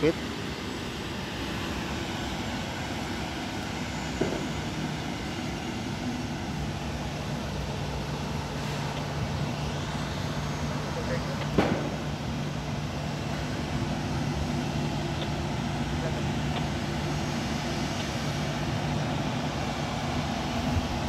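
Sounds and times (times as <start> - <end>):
jet engines idling: 0.0 - 21.0.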